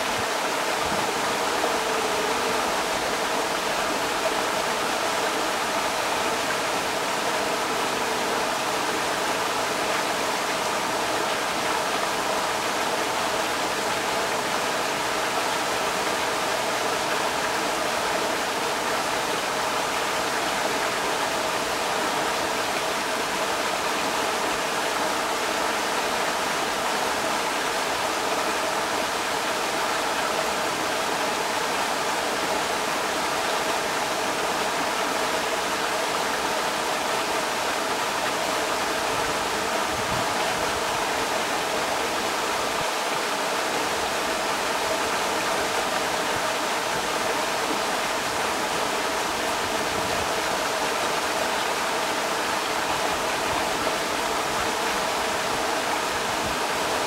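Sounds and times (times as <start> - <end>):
creek water rushing over rocks: 0.0 - 57.0.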